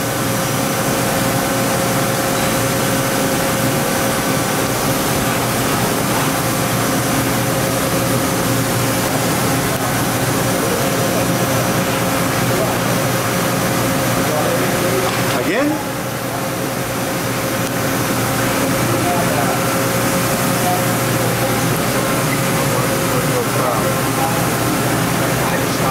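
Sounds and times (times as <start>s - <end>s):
machine humming: 0.0s - 25.9s.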